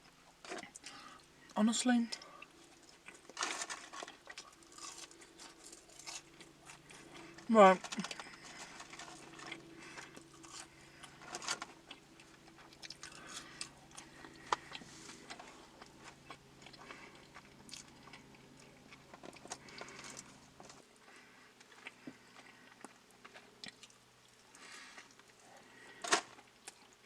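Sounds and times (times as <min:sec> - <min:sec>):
chewing and biting food: 0:02.2 - 0:27.0.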